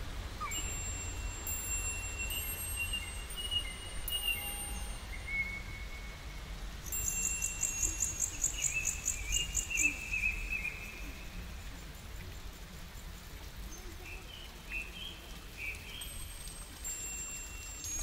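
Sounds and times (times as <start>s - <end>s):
songbirds singing: 0.4s - 18.0s.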